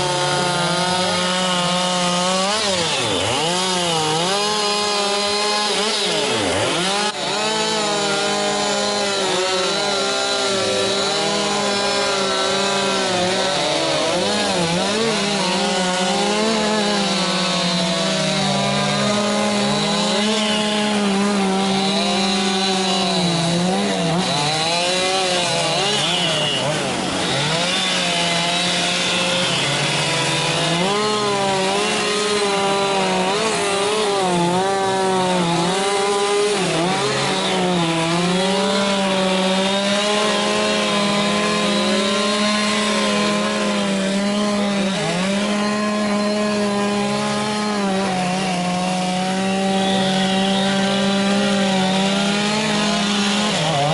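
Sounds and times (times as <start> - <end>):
chainsaw carving wood: 0.0 - 53.9.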